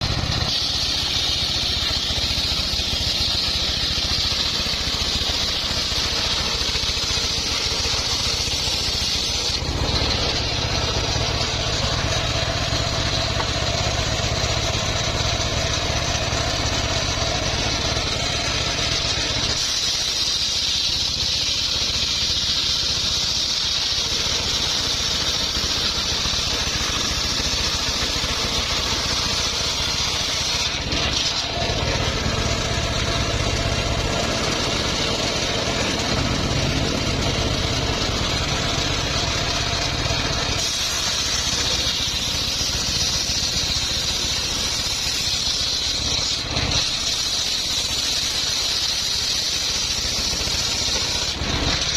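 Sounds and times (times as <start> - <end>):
circular saw cutting wood: 0.0 - 51.9.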